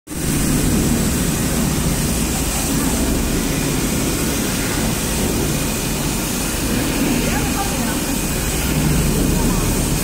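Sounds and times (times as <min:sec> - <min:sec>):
hot air welder rushing hum: 0:00.1 - 0:10.0.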